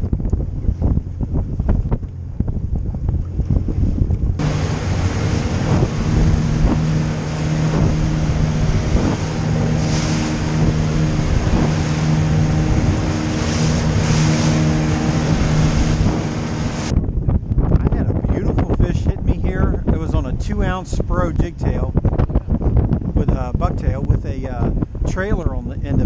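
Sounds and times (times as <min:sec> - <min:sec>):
water rushing past hull: 0:00.0 - 0:23.3
outboard motor humming: 0:00.0 - 0:25.3
wind buffeting microphone: 0:00.0 - 0:26.0.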